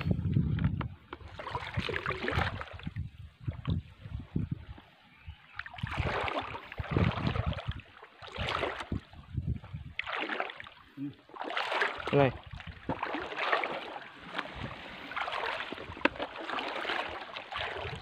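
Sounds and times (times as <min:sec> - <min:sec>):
wading through shallow water: 0:00.0 - 0:18.0.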